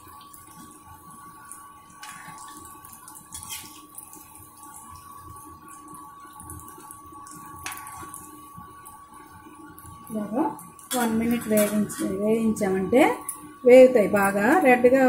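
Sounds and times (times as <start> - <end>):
oil sizzling and bubbling: 0.0 - 15.0.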